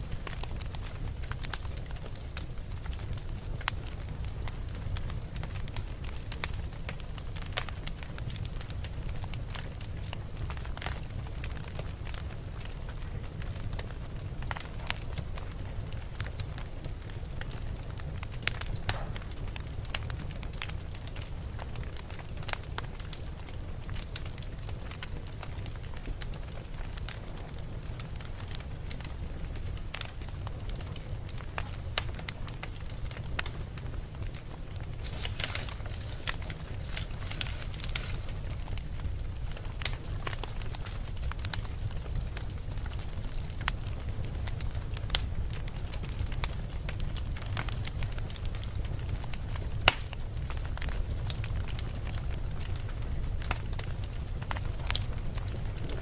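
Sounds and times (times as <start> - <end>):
logs crackling and popping: 0.0 - 56.0
low rumble of flames: 0.0 - 56.0.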